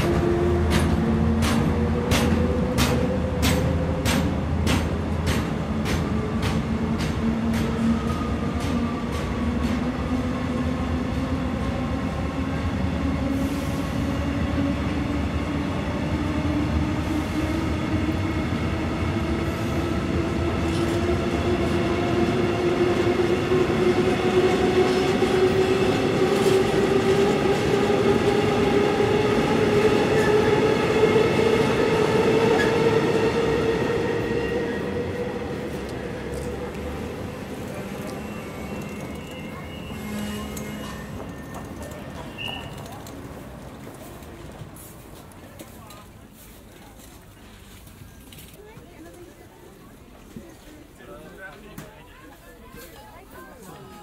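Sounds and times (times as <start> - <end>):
train wheels rumbling: 0.0 - 48.4.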